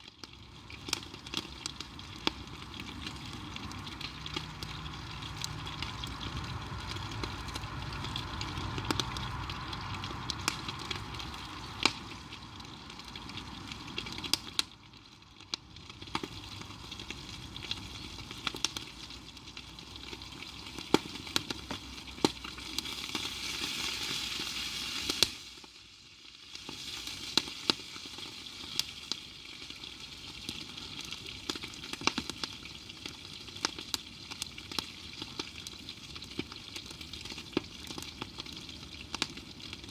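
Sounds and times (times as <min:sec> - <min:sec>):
campfire crackling and popping: 0:00.0 - 0:39.9
food sizzling in a pan: 0:00.0 - 0:39.9.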